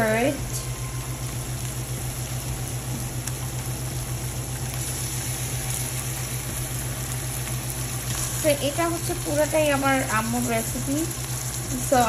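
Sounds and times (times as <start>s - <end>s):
food frying hiss: 0.0s - 12.0s
small motor humming: 0.0s - 12.0s.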